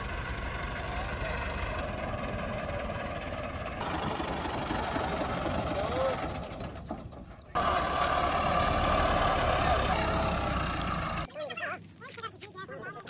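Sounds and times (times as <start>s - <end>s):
heavy farm machinery engine: 0.0s - 11.3s.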